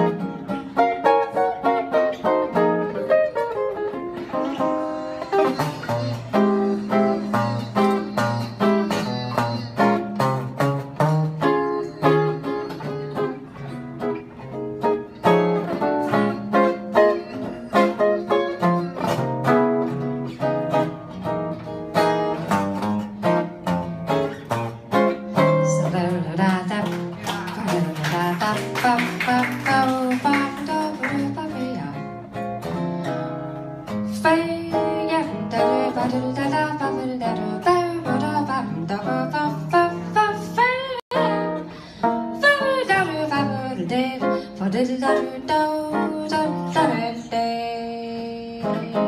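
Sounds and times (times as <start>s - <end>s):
jazz guitar solo: 0.0s - 49.0s.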